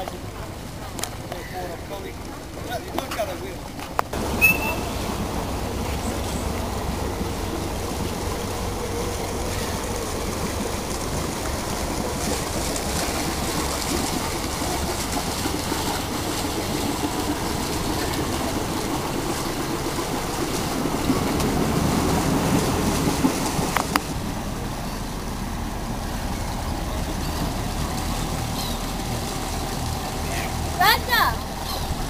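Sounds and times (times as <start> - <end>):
boat engine idling: 0.0 - 32.0
water noise: 0.0 - 32.0.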